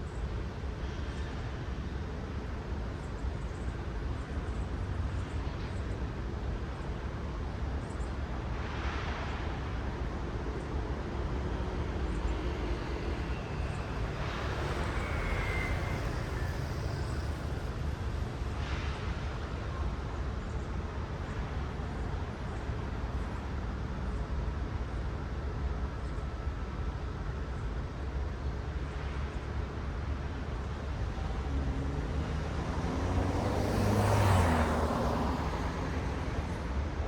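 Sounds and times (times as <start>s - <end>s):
low rumble of traffic: 0.0s - 37.0s
tyre hiss of passing cars: 0.1s - 23.3s, 28.6s - 37.0s.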